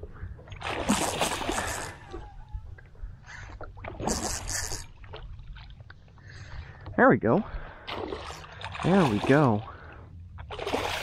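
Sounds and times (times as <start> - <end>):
low rumble of water and wind: 0.0 - 11.0.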